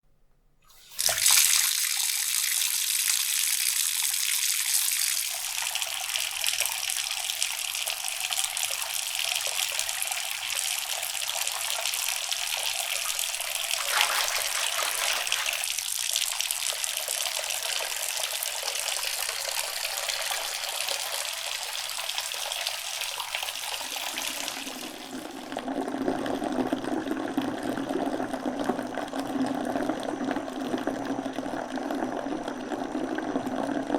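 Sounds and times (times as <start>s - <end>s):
water pouring into a bathtub: 0.7s - 33.9s.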